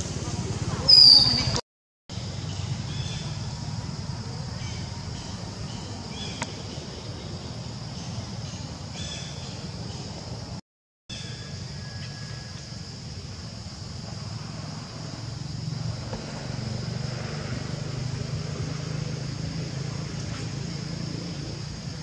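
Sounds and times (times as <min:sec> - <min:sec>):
low engine hum: 0:00.0 - 0:10.6, 0:11.6 - 0:22.0
constant high hiss: 0:02.1 - 0:22.0.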